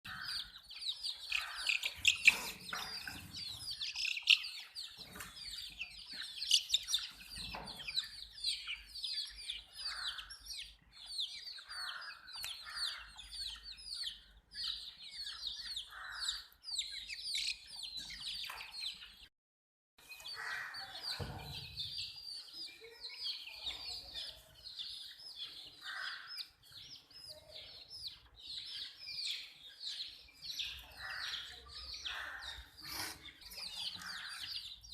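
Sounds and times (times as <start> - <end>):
baby chicks peeping: 0.0 - 19.3, 20.0 - 34.9.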